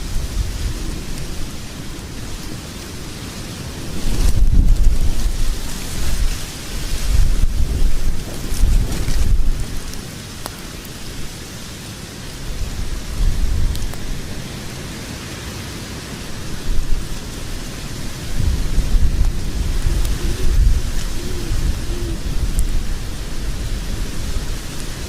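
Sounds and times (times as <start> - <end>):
fire crackles and pops: 0.0 - 15.3, 16.2 - 25.0
fire hissing and rumbling: 0.0 - 25.0.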